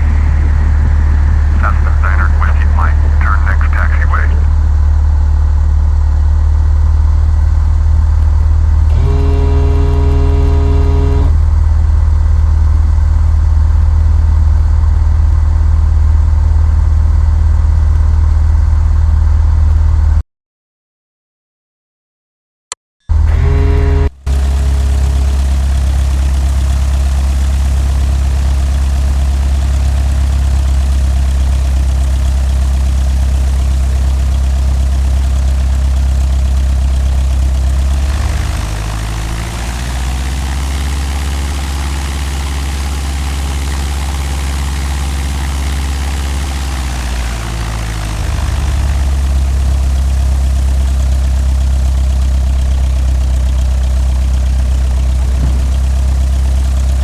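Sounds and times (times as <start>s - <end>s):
propeller plane engine: 0.0s - 20.2s, 23.1s - 57.0s.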